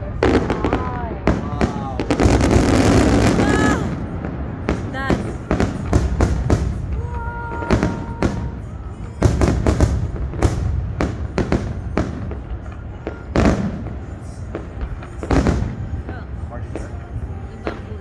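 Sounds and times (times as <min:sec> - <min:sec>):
fireworks bursting with bangs and crackles: 0:00.0 - 0:18.0.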